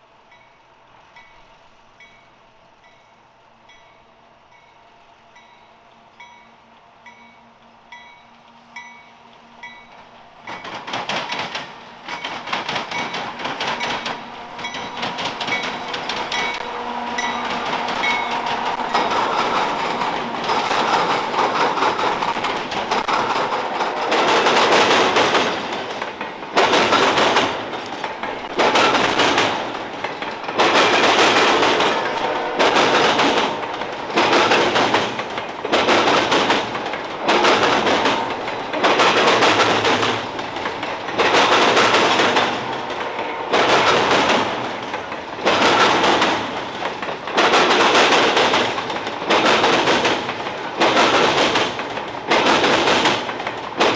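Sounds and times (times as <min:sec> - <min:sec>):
train wheels clattering on rail joints: 0:05.4 - 0:53.9.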